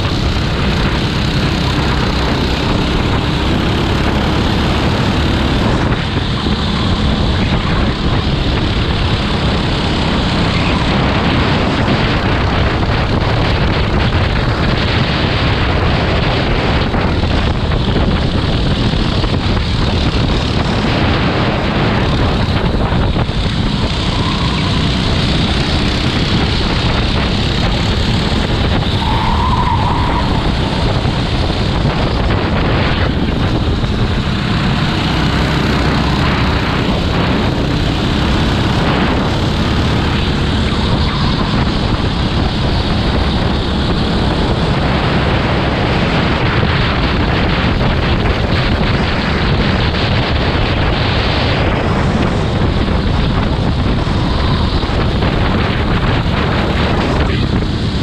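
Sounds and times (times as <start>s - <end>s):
go-kart engine: 0.0s - 58.0s
wind buffeting the microphone: 0.0s - 58.0s.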